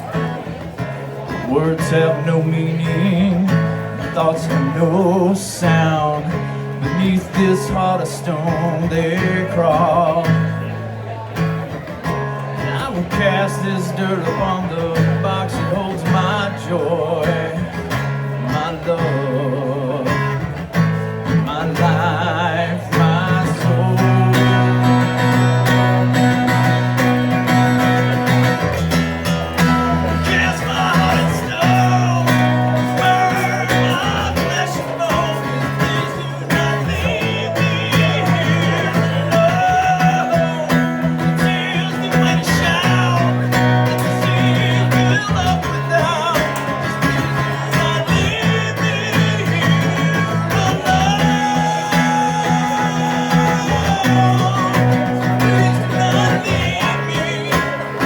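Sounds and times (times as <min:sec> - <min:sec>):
guitar playing: 0:00.0 - 0:58.0.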